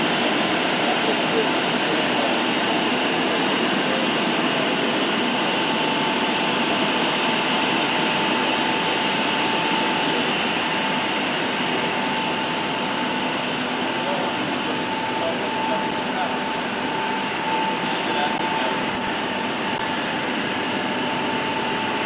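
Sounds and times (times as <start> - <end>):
faint steady whine: 0.0 - 22.0
loud transmitter machine noise: 0.0 - 22.0.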